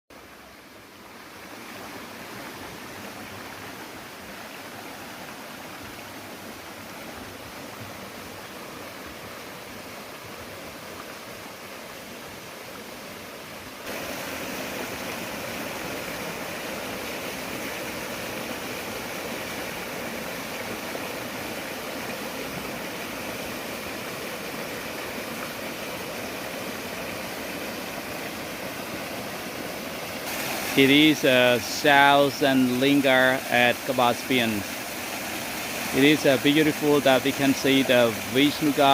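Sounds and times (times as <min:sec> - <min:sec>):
water rushing over rocks: 0:00.2 - 0:38.9.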